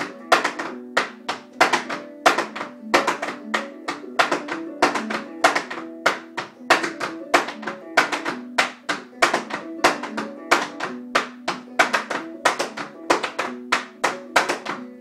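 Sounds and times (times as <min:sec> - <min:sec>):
tap shoes on wooden floor: 0:00.0 - 0:14.8
clawhammer banjo music: 0:00.0 - 0:15.0.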